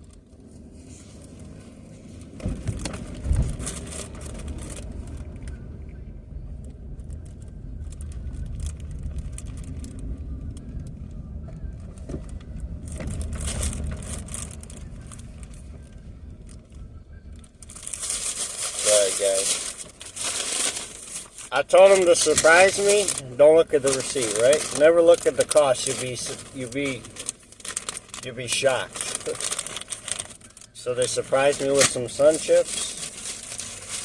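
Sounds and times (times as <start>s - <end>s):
rustling noise: 0.0s - 5.6s, 11.7s - 16.8s, 17.4s - 34.0s
car engine and road rumble: 0.0s - 34.0s.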